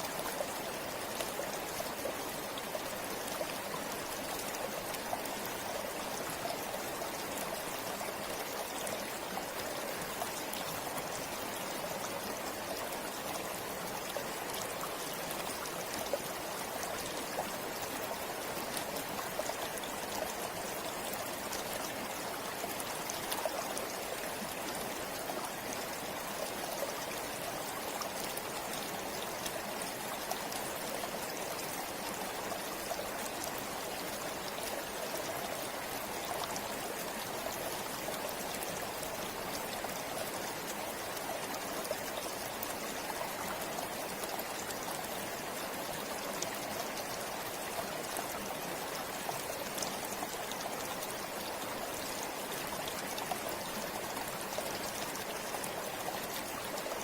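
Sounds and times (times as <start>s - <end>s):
river water over rocks: 0.0s - 57.0s.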